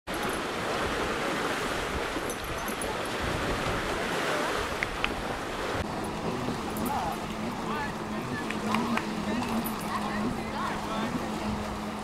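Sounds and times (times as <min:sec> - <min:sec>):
water along river shore: 0:00.1 - 0:12.0
wind on microphone: 0:00.5 - 0:12.0.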